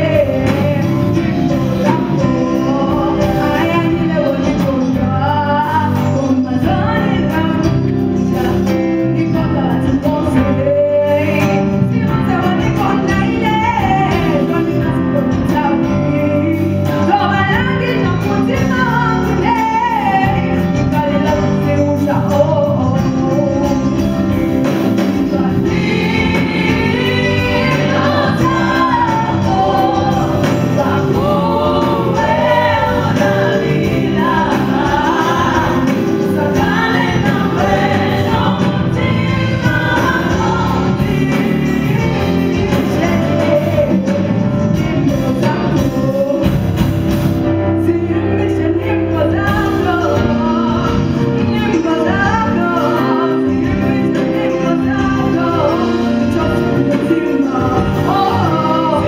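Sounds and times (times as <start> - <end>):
female backing vocals: 0.0 - 46.7, 47.5 - 59.0
live band accompaniment: 0.0 - 59.0
woman singing into a microphone: 0.0 - 59.0.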